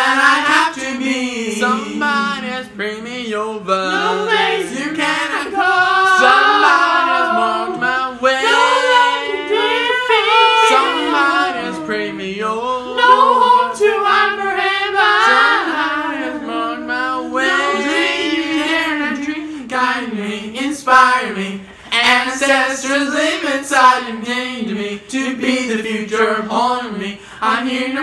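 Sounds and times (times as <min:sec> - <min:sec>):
a cappella harmony singing: 0:00.0 - 0:28.0.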